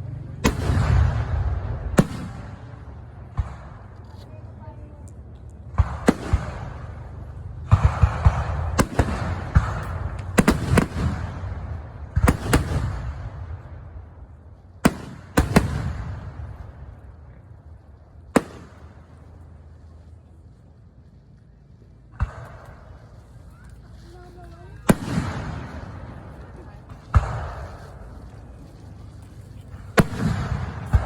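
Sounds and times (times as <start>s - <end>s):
fireworks crackling: 0.0s - 31.0s
fireworks bangs: 0.3s - 5.0s, 5.6s - 17.4s, 18.2s - 19.7s, 22.0s - 31.0s.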